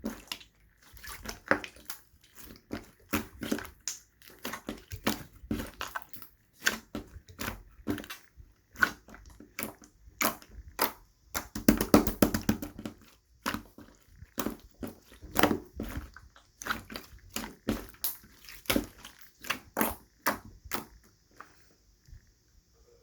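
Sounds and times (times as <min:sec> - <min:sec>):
hands squishing slime: 0:00.0 - 0:22.2.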